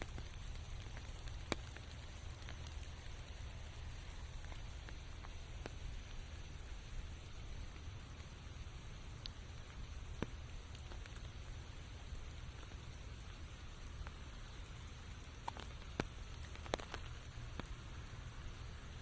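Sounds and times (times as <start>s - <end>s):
heavy raindrops striking: 0.0s - 19.0s
rain pattering in forest: 0.0s - 19.0s.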